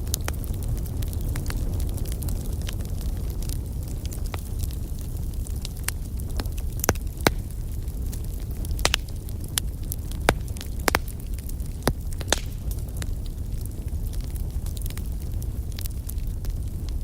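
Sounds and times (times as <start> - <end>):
burning wood crackling and popping: 0.0 - 17.0
flames rumbling: 0.0 - 17.0.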